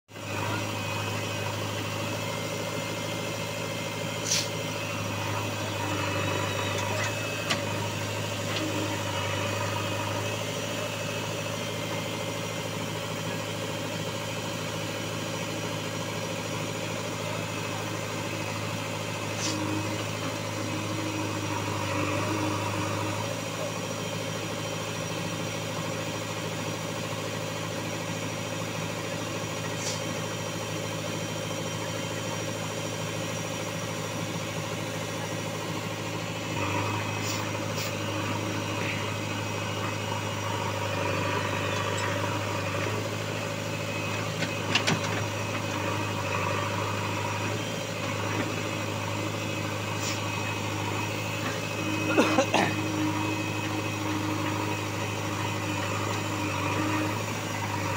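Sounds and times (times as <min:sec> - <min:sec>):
diesel engine idling: 0:00.1 - 0:57.9.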